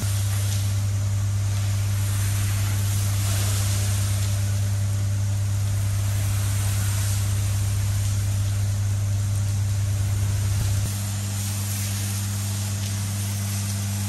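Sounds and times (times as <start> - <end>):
loud steady low hum: 0.0 - 14.0
pressure washer spraying water: 0.0 - 14.0.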